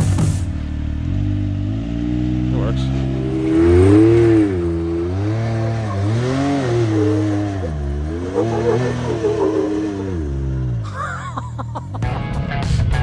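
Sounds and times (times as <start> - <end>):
utility vehicle engine revving: 0.0 - 12.1.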